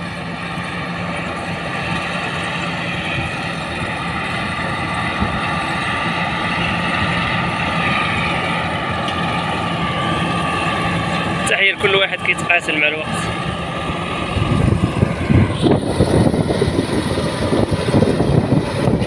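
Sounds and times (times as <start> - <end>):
combine harvester engine drone: 0.0 - 19.0
high whine of threshing machinery: 0.0 - 19.0.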